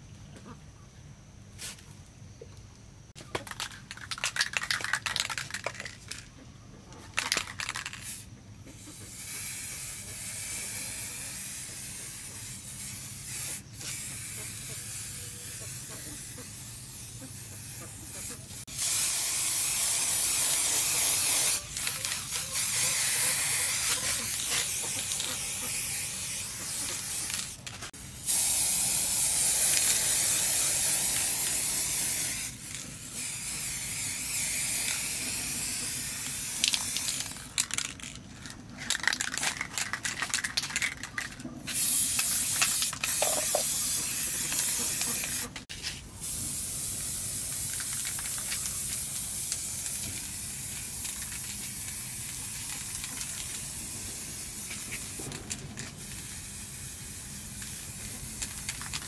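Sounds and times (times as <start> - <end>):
spray can hissing: 3.4 - 6.3, 7.2 - 59.0.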